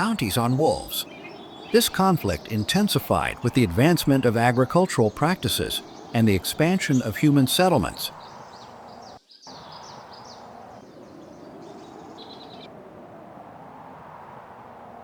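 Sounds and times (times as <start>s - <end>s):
small bird twittering: 0.0s - 12.7s
outdoor ambience: 0.0s - 15.0s.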